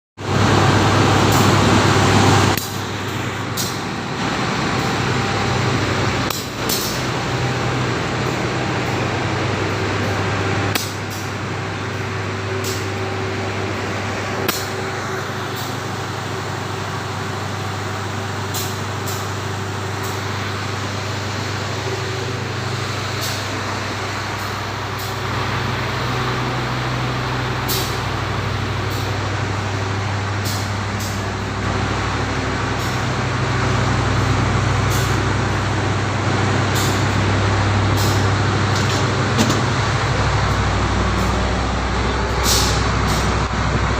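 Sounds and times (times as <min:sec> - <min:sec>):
train engine hum: 0:00.2 - 0:43.9
train running noise: 0:00.2 - 0:43.9.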